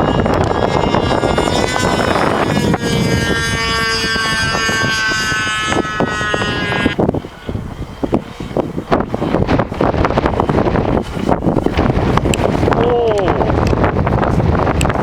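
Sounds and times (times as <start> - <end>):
model plane motor whining: 0.0 - 12.8
wind buffeting microphone: 0.0 - 15.0.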